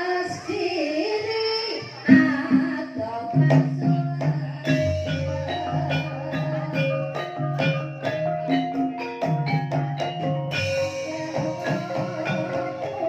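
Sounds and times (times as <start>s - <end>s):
person singing: 0.0s - 13.0s
struck tuned percussion: 1.2s - 13.0s.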